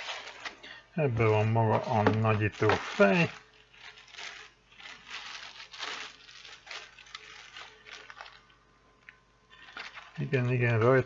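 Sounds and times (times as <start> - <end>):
plastic bag crinkling: 0.0 - 8.6, 9.5 - 10.8.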